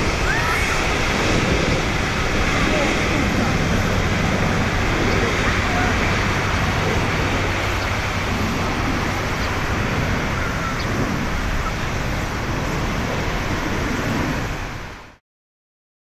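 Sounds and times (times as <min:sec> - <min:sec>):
loud jet engine noise: 0:00.0 - 0:15.2.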